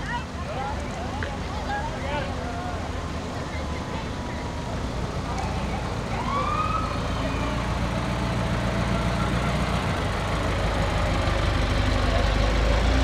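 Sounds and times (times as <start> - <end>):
truck engine rolling past: 0.0 - 13.0.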